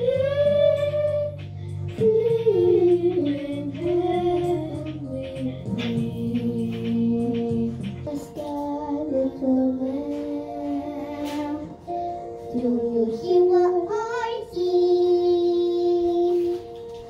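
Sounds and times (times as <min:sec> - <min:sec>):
girls singing into microphones: 0:00.0 - 0:16.9.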